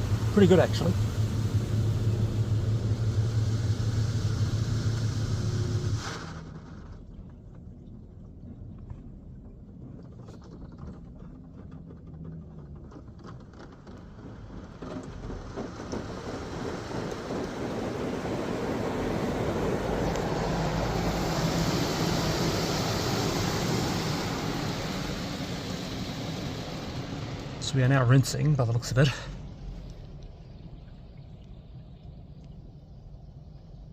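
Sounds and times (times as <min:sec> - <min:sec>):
car wash water jets spraying: 0:00.0 - 0:07.1, 0:13.5 - 0:33.9.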